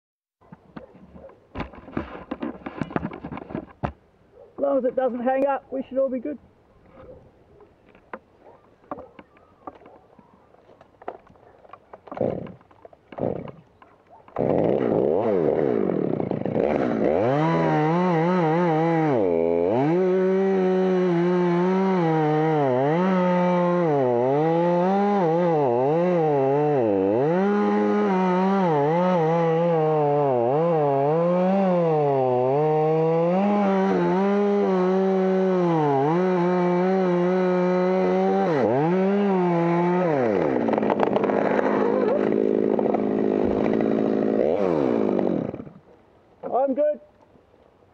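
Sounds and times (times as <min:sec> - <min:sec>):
chainsaw cutting wood: 0:00.5 - 0:04.0, 0:07.9 - 0:10.0, 0:10.6 - 0:46.6.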